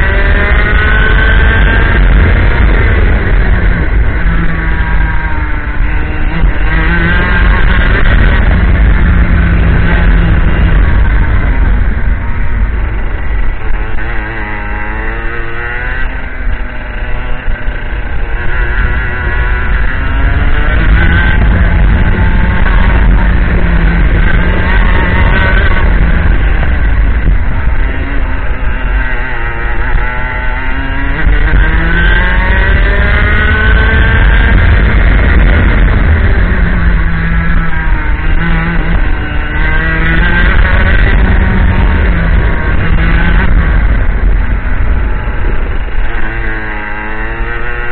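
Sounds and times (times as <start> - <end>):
kart engine at racing speed: 0.0 - 47.9
steady low rumble: 0.0 - 47.9.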